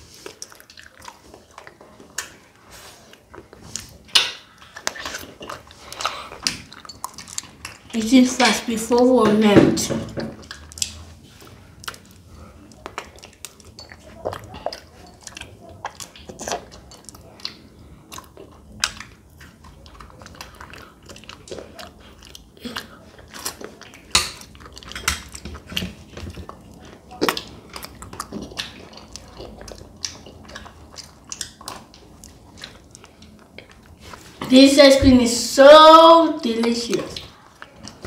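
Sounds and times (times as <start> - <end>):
children eating ice cream: 0.0 - 38.0.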